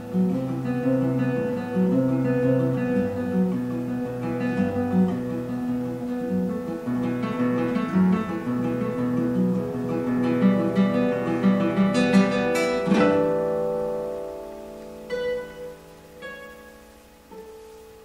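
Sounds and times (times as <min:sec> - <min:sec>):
finger-picked classical guitar: 0:00.0 - 0:18.0.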